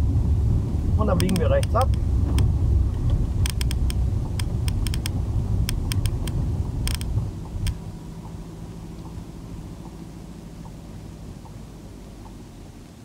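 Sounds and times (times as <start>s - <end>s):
engine and tyres rumbling: 0.0s - 13.0s
turn signal clicking: 1.1s - 12.4s.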